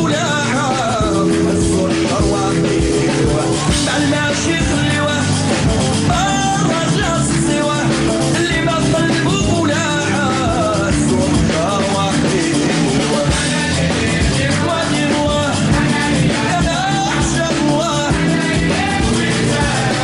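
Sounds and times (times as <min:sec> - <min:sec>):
live band music: 0:00.0 - 0:20.0
man singing: 0:00.0 - 0:20.0.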